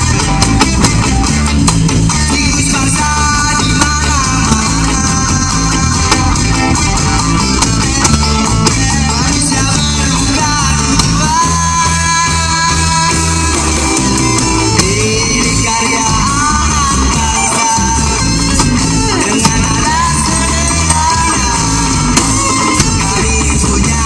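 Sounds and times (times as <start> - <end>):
rock band playing loudly: 0.0 - 24.0.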